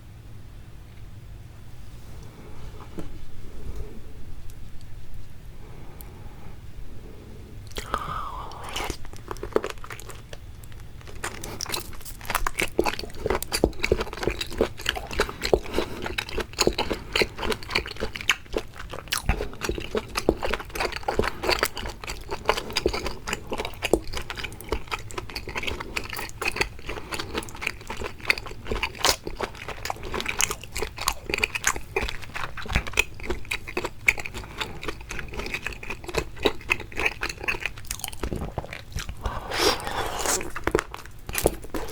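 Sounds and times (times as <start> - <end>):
crunchy chewing: 7.7 - 41.9.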